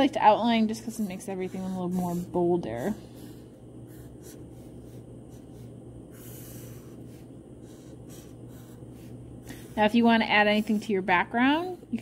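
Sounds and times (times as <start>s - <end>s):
low steady hum: 0.0s - 12.0s
marker scratching on paper: 0.6s - 11.0s.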